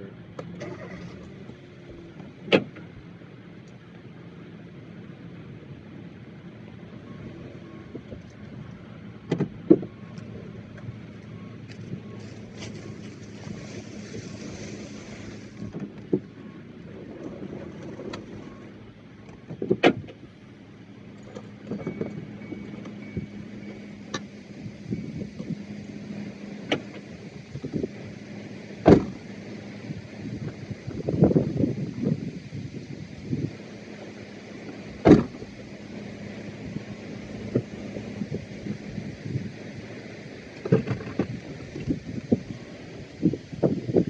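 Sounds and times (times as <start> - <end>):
combine diesel engine droning: 0.0 - 44.0.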